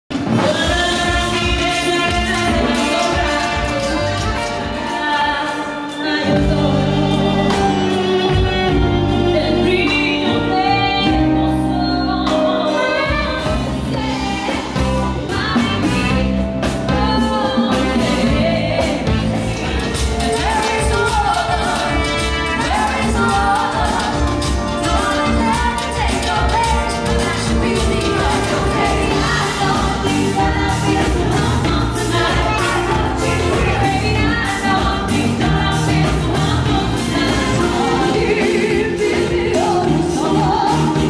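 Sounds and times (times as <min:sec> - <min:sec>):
band playing: 0:00.1 - 0:41.0
women singing: 0:00.2 - 0:41.0
bass-heavy groove: 0:06.2 - 0:41.0.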